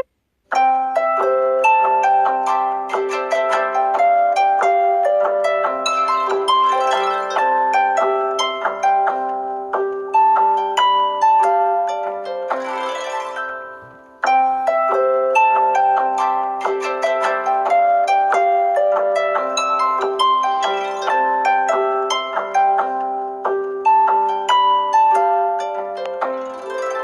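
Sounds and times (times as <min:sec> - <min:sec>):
plucked harp-like ringtone melody: 0:00.0 - 0:27.0.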